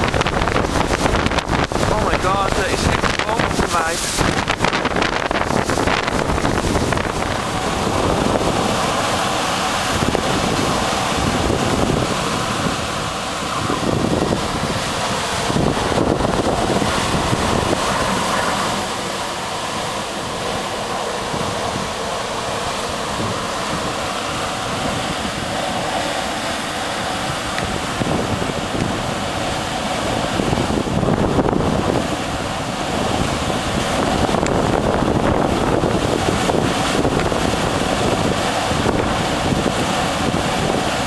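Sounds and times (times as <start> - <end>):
strong wind gusts: 0.0 - 41.0.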